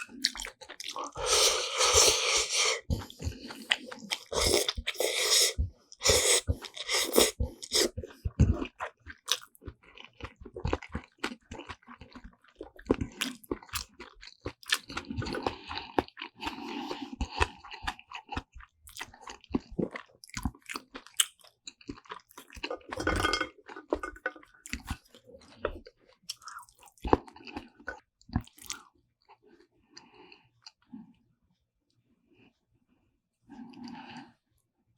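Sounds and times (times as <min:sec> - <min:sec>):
person chewing wetly: 0:00.0 - 0:29.4.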